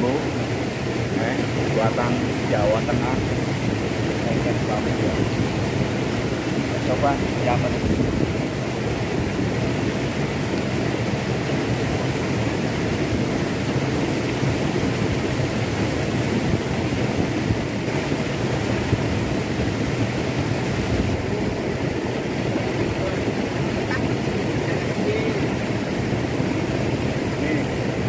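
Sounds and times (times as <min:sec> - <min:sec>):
stream rushing over stones: 0:00.0 - 0:28.0.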